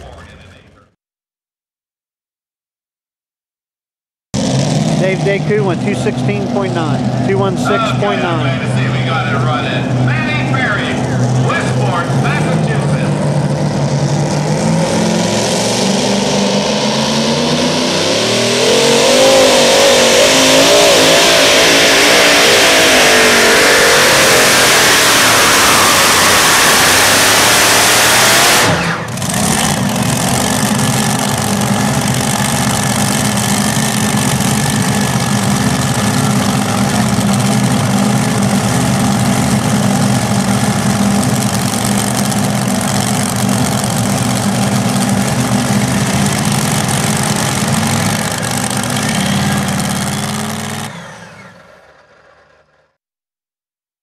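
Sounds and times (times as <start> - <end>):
tractor engines at full throttle: 0.0 - 0.7, 4.4 - 53.0
engines idling: 0.0 - 0.9, 4.4 - 17.6, 19.9 - 53.0.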